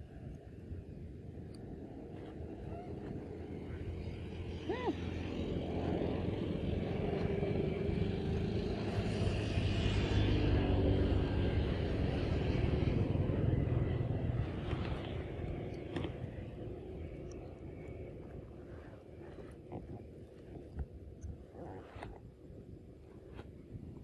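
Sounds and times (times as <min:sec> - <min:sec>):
passing vehicle engine rumble: 0:01.4 - 0:24.0.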